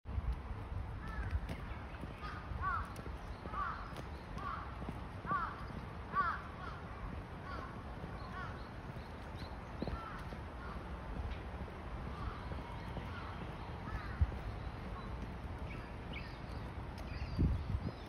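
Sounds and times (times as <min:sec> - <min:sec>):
footsteps on paved path: 0:00.1 - 0:18.0
birds calling: 0:01.0 - 0:18.0.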